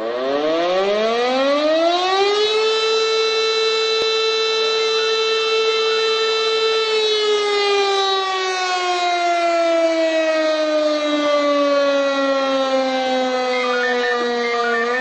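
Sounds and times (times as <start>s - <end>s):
alarm siren wailing: 0.0s - 15.0s.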